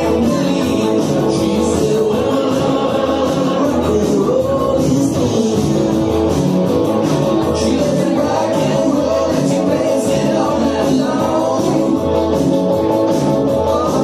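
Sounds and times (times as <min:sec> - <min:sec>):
loud dance music with singer: 0:00.0 - 0:14.0.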